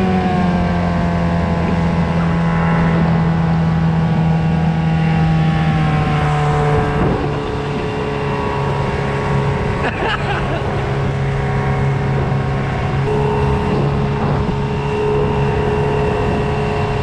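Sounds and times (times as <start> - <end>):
boat motor droning: 0.0 - 17.0
wind on microphone: 0.0 - 17.0.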